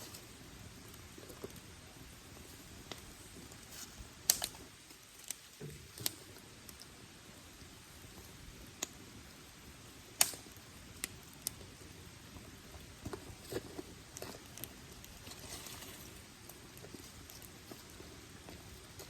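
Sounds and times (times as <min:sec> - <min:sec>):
campfire crackling pops: 0:00.0 - 0:19.0
faint steady hiss: 0:00.0 - 0:19.0.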